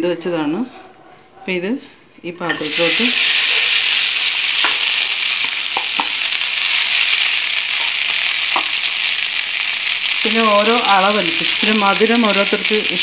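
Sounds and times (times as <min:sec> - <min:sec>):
lentils sizzling in a pan: 0:02.5 - 0:13.0.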